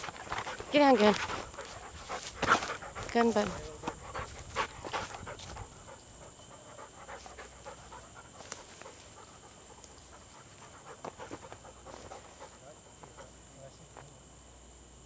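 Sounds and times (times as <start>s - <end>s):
dog panting: 0.0s - 13.5s.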